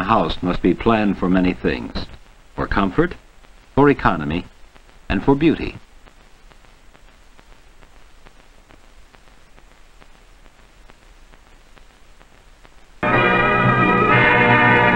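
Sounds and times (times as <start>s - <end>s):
light crackles: 0.0s - 13.0s
film soundtrack hiss: 0.0s - 14.9s.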